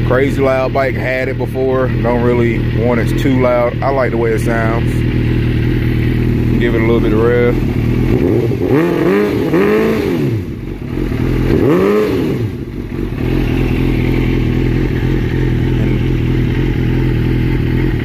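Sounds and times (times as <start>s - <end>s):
motorcycle engine idling: 0.0s - 18.0s
motorcycle engine revving: 0.0s - 18.0s.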